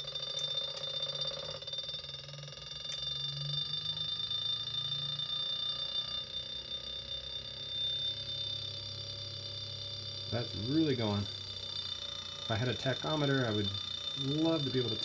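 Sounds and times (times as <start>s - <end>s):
low hum: 0.0s - 15.0s
motor whine: 0.0s - 15.0s.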